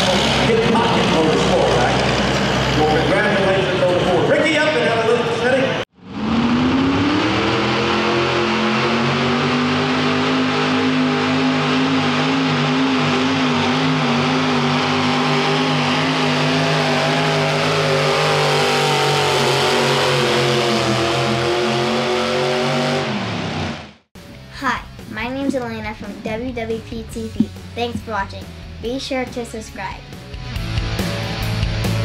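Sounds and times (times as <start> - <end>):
truck engine at high revs: 0.0 - 24.1, 25.2 - 28.8.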